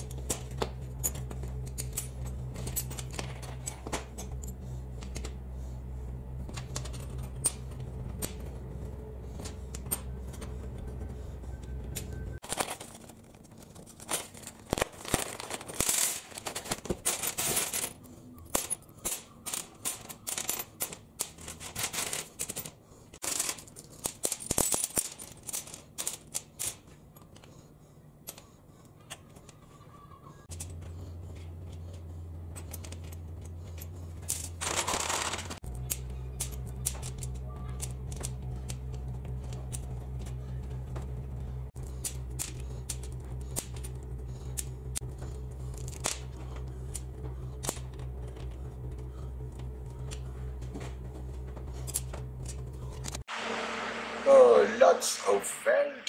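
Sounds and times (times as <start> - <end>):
steady low hum: 0.0 - 23.9, 26.9 - 56.0.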